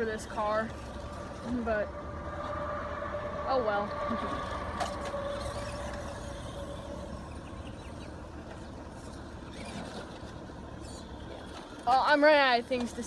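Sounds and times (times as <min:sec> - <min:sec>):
steady whine: 0:00.0 - 0:11.8
low mechanical hum: 0:00.0 - 0:13.0.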